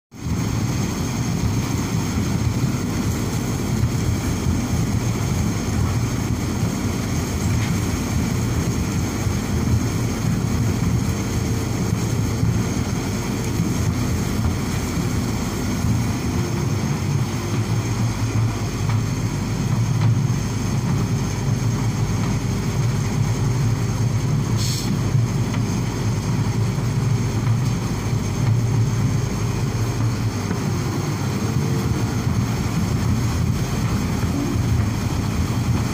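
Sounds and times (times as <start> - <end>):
vibratory feeder humming: 0.2 - 35.9.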